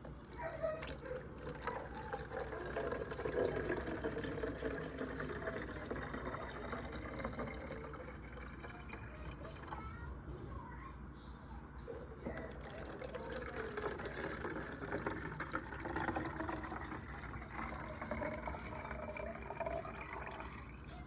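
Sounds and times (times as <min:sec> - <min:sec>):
coffee pouring into container: 0:00.0 - 0:10.0, 0:12.2 - 0:21.0.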